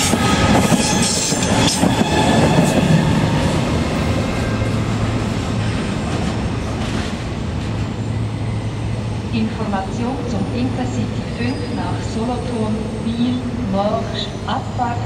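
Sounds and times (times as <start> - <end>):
train wheels on rails: 0.0 - 14.3.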